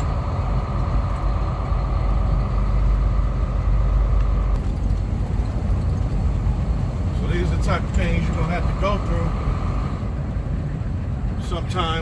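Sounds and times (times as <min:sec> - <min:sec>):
steady whine: 0:00.0 - 0:12.0
truck engine and road rumble: 0:00.0 - 0:12.0.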